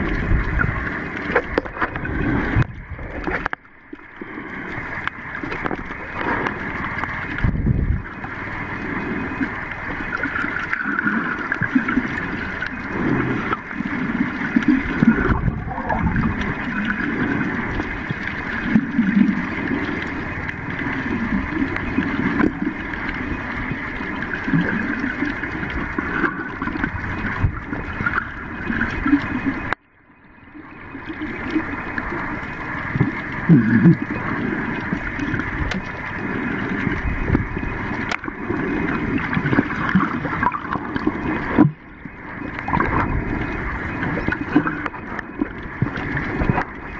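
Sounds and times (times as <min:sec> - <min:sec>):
underwater water rushing and gurgling: 0:00.0 - 0:46.9.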